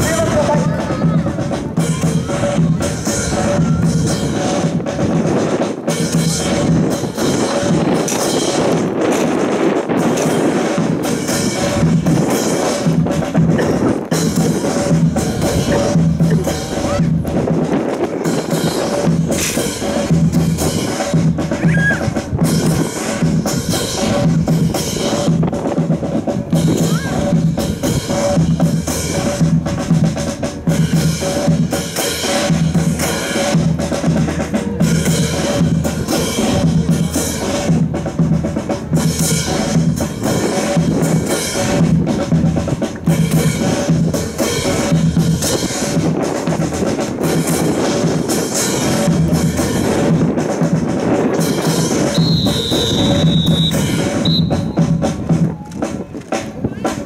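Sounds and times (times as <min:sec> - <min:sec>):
bass and snare drums: 0:00.0 - 0:57.0
military band playing a march: 0:00.0 - 0:57.0.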